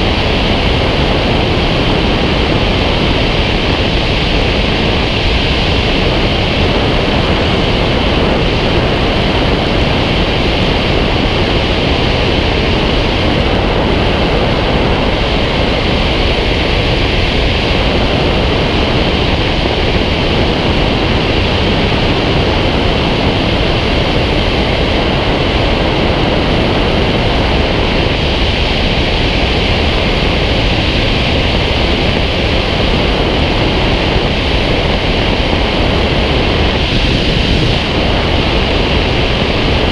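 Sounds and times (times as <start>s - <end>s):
airflow rushing over microphone: 0.0s - 39.9s.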